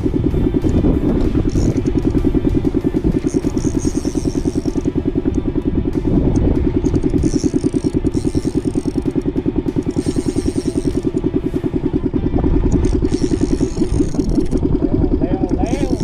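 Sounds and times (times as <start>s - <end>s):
boat engine throbbing: 0.0s - 16.0s.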